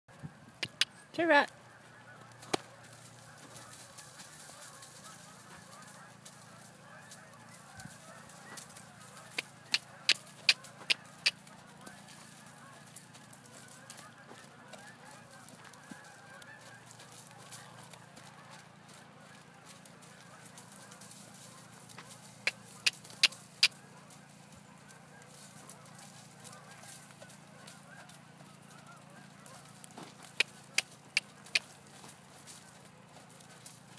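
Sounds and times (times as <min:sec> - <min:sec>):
horse hooves trotting: 0:00.1 - 0:33.9.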